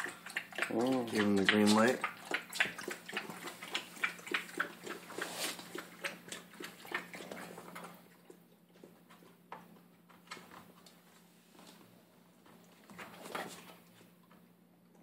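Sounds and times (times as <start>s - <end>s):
puppy eating from dish: 0.0s - 15.0s.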